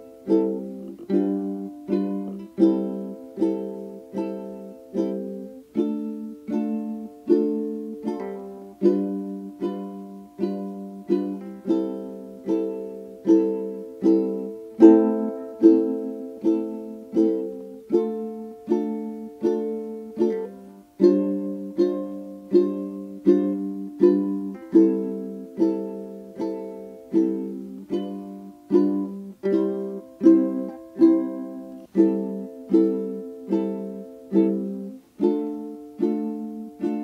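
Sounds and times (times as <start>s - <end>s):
strummed string chords: 0.0s - 37.0s.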